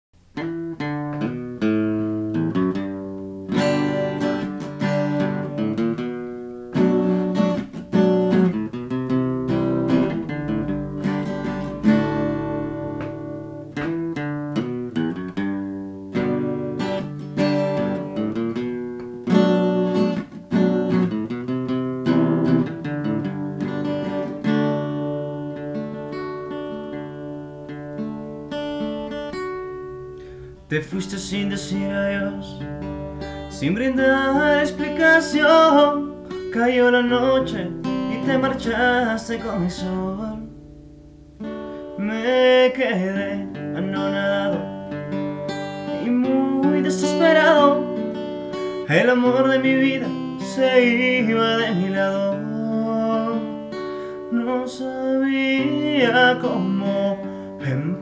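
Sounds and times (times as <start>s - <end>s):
solo acoustic guitar: 0.2s - 58.0s.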